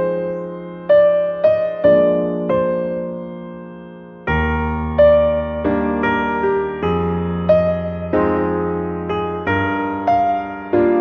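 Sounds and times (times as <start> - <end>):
gentle electric piano: 0.0 - 11.0.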